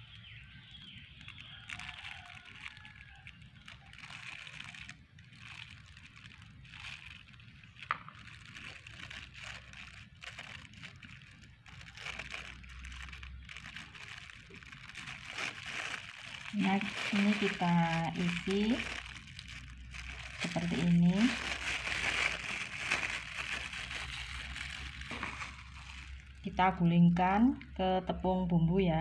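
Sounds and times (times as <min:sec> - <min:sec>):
plastic gloves crinkling: 0:00.0 - 0:26.8.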